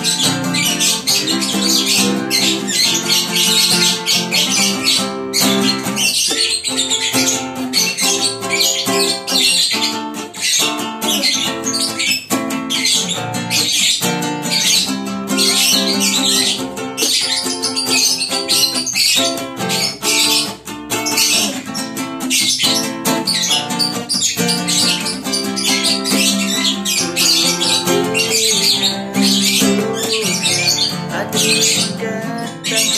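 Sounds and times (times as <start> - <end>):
acoustic guitar strumming: 0.0 - 32.9
bird chattering and squawking: 0.0 - 32.9.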